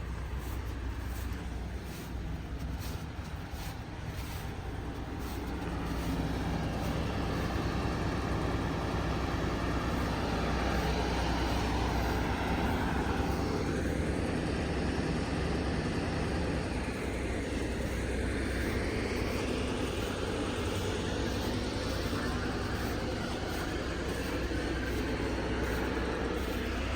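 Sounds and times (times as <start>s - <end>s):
diesel engine rumbling: 0.0s - 26.9s.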